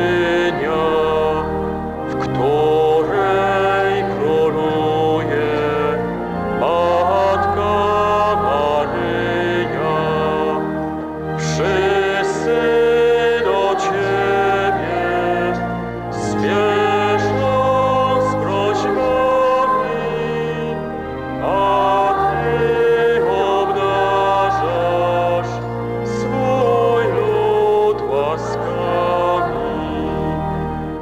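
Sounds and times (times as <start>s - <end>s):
hymn singing: 0.0s - 31.0s.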